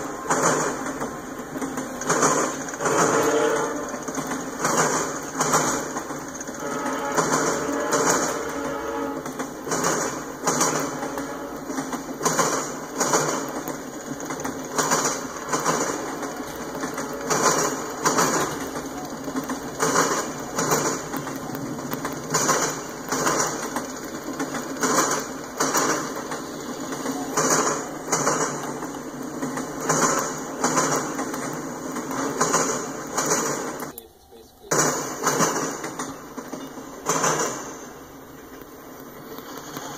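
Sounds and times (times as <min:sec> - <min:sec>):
train rolling rumble: 0:00.0 - 0:39.9
train wheel clacks: 0:00.0 - 0:39.9.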